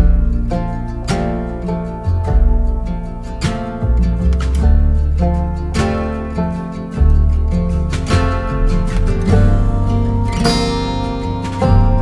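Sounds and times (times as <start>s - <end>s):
deep bass line: 0.0s - 12.0s
plucked string chords: 0.0s - 12.0s.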